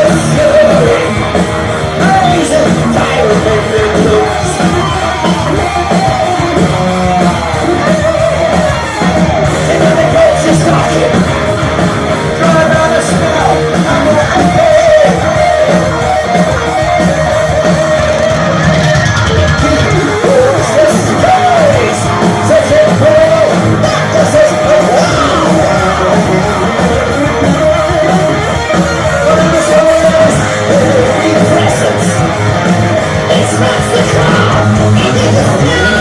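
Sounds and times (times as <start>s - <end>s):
heavy metal band playing live: 0.0s - 36.0s
high bending vocals: 0.0s - 36.0s.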